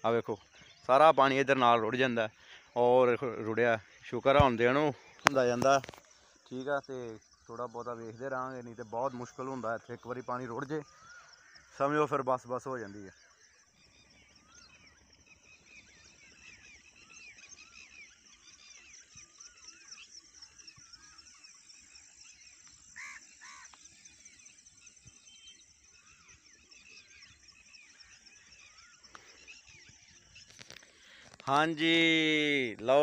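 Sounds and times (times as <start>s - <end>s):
birds chirping and whistling: 0.0s - 33.0s.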